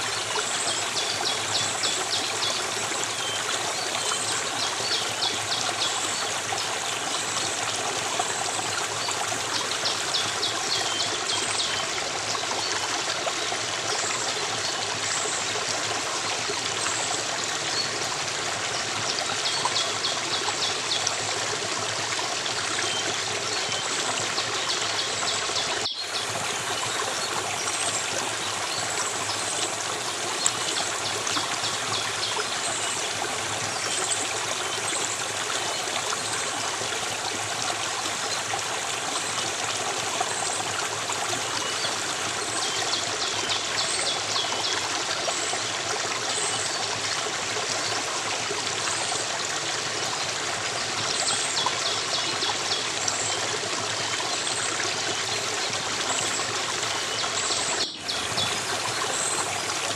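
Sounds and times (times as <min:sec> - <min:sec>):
stream flowing: 0:00.0 - 0:59.9.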